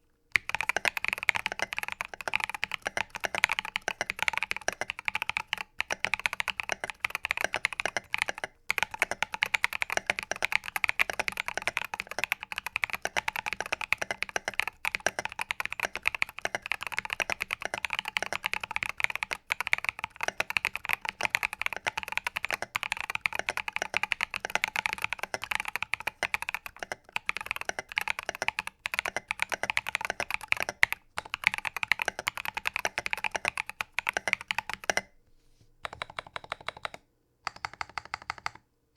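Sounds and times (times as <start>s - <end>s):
fast mechanical keyboard typing: 0.3s - 35.1s, 35.8s - 38.6s.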